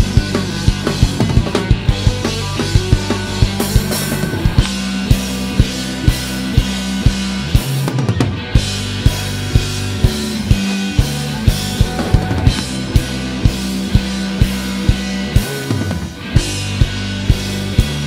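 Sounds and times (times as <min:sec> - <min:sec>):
drum kit steady beat: 0:00.0 - 0:18.0
electric bass notes: 0:00.0 - 0:18.0
electric guitar: 0:00.0 - 0:18.0.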